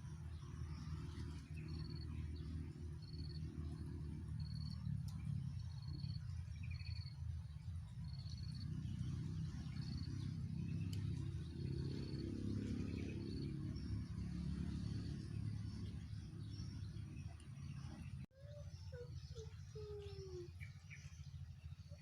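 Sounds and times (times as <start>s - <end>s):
steady low rumble: 0.0s - 18.3s.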